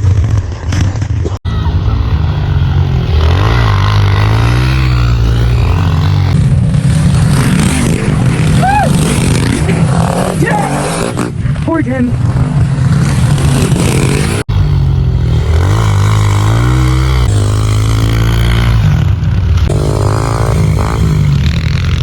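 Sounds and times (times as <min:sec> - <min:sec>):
pit bike engines revving: 0:01.5 - 0:22.0.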